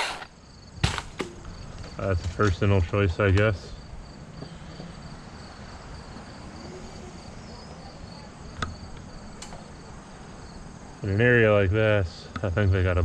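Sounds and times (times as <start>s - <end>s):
insects chirping: 0.0s - 13.0s
faint background noise: 0.3s - 13.0s.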